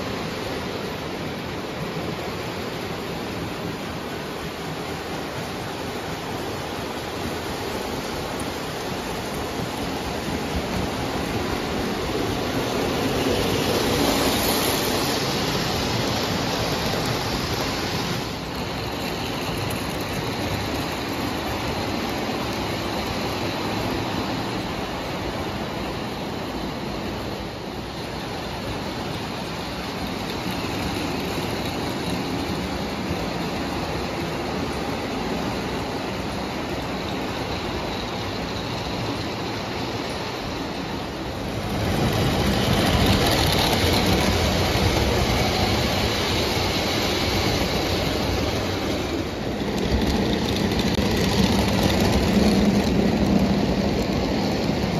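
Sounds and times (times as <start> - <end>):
toy trains rumbling on metal track: 0.0 - 54.9.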